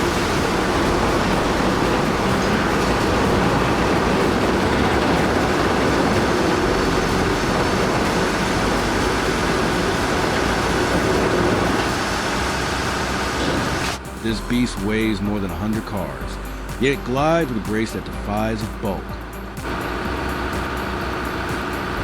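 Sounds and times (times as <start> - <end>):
heavy diesel engine rumble: 0.0 - 22.0.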